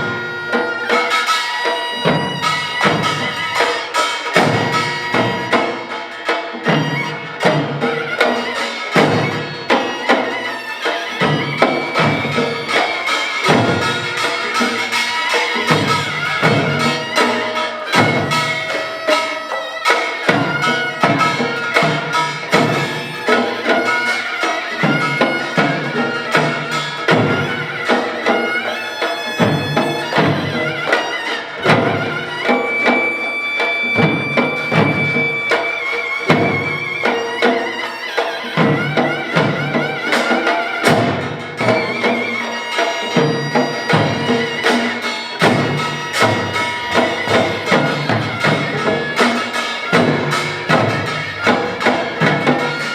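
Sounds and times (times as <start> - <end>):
drums and gongs striking: 0.0 - 52.9
nasal reed shawm melody: 0.0 - 52.9.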